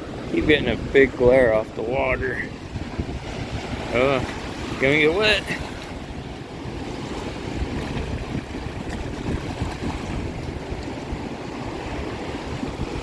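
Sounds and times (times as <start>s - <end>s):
waves washing up shore: 0.0s - 13.0s
wind buffeting microphone: 0.0s - 13.0s.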